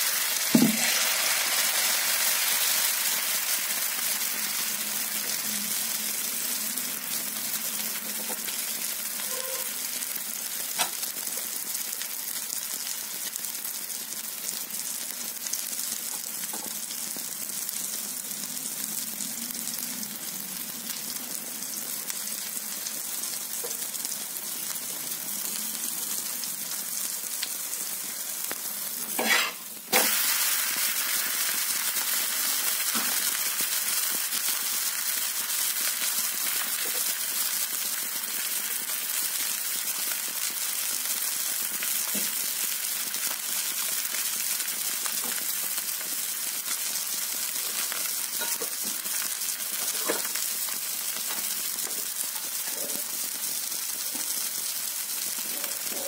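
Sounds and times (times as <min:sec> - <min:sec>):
pancake sizzling in oil: 0:00.0 - 0:56.0.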